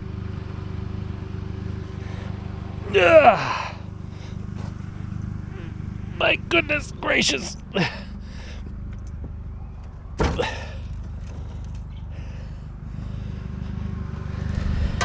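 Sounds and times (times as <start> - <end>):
road traffic rumble: 0.0 - 15.0
vehicle approaching: 0.0 - 15.0.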